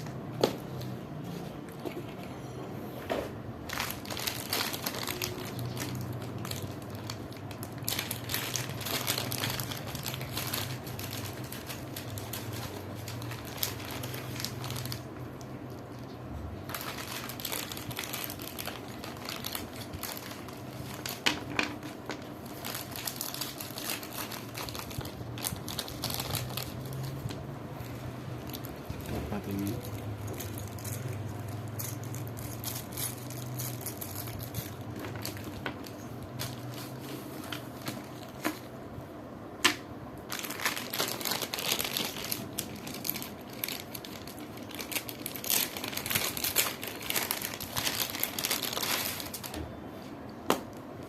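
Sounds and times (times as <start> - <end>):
plastic packaging crinkling: 3.5 - 38.8, 40.2 - 49.8.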